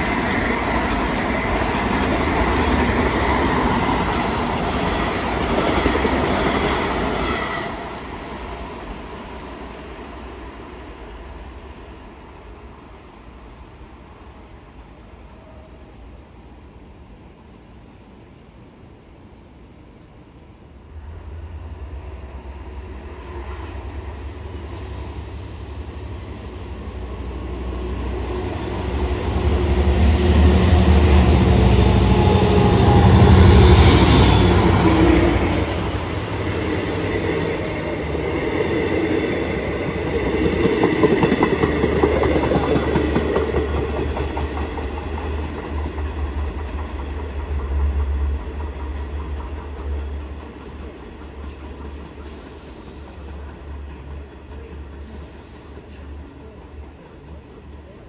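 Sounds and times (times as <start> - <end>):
train passing close by: 0.0 - 58.0.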